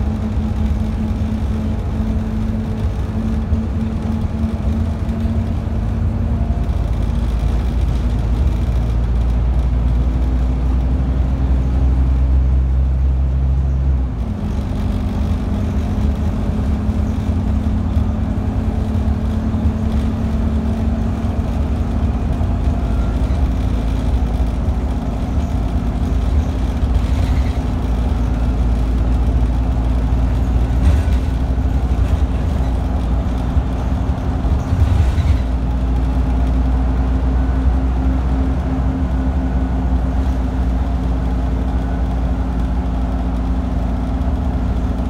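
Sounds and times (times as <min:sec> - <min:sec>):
bus engine running: 0:00.0 - 0:45.0
road and tyre rumble: 0:00.0 - 0:45.0.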